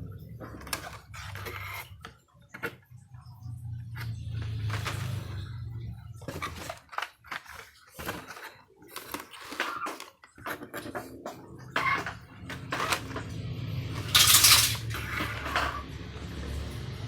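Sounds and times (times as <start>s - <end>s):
toy cars clicking and clattering: 0.0s - 3.0s, 3.8s - 5.5s, 6.1s - 17.0s
plastic and card rustling: 0.3s - 3.0s, 4.0s - 15.8s.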